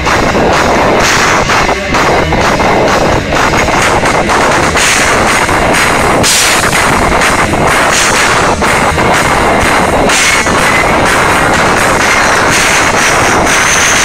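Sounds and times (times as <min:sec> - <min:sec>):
distorted guitars: 0:00.0 - 0:14.0
drums: 0:00.0 - 0:14.0
live rock band playing: 0:00.0 - 0:14.0.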